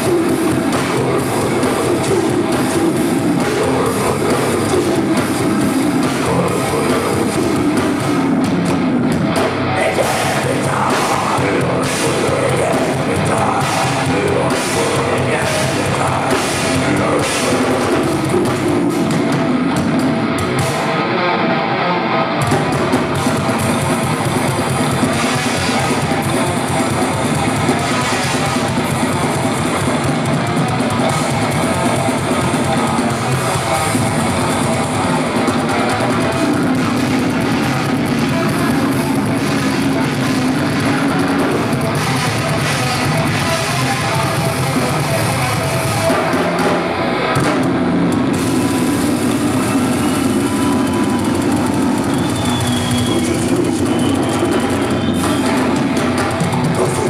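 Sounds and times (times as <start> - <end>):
drum kit: 0.0 - 21.1, 22.4 - 57.0
distorted electric guitars: 0.0 - 57.0.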